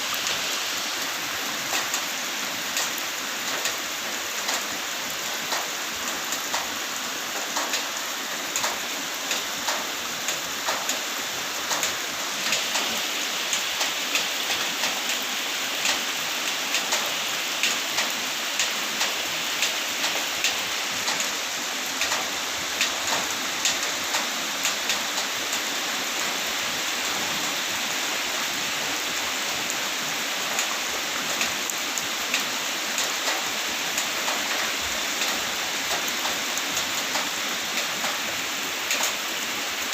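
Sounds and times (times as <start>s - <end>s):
raindrops hitting a surface: 0.0s - 39.9s
steady rain hiss: 0.0s - 39.9s.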